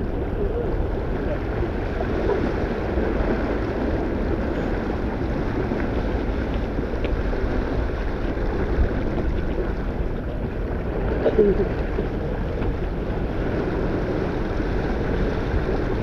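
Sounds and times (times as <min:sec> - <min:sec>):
water rushing past hull: 0:00.0 - 0:16.0
wind noise on microphone: 0:00.0 - 0:16.0.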